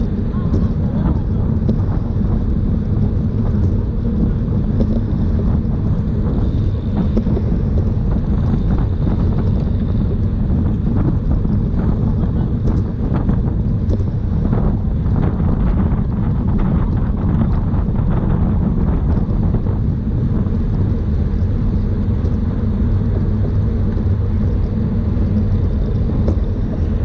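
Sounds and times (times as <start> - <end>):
faint ticks and rattles: 0.0 - 27.0
wind rumble on microphone: 0.0 - 27.0.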